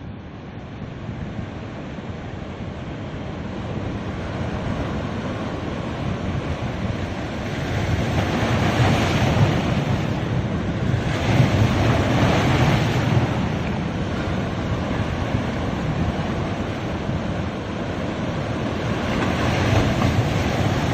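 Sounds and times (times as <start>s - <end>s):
wind rumble on microphone: 0.0s - 20.9s
ocean waves breaking: 0.4s - 20.9s.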